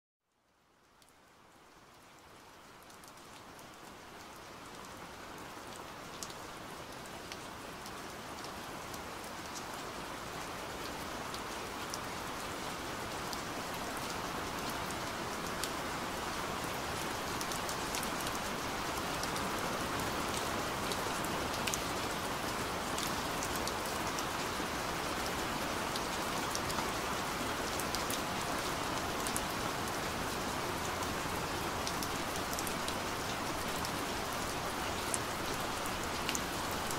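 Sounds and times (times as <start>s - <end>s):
rain-like noise: 0.2s - 36.9s.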